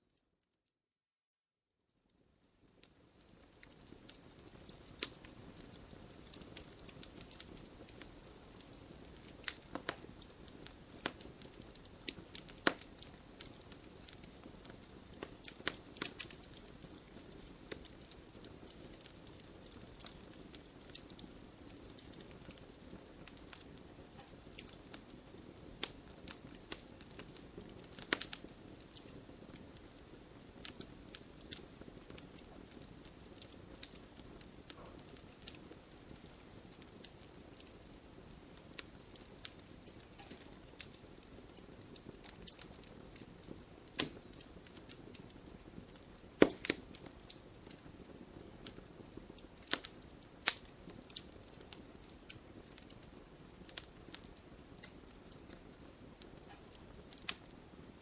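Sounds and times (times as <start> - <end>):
wood fire crackling: 2.1 - 58.0.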